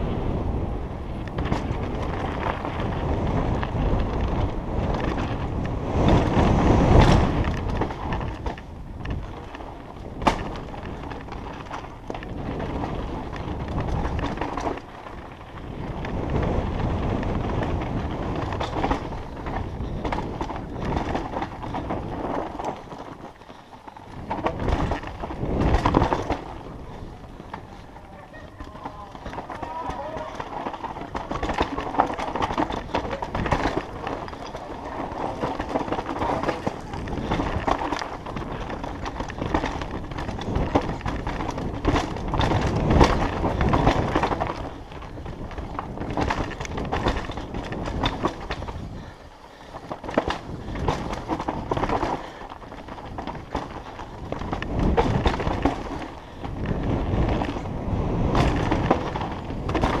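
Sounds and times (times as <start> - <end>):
rush of tyre and wind noise: 0.0 - 60.0
bike knocking and clattering: 1.0 - 60.0.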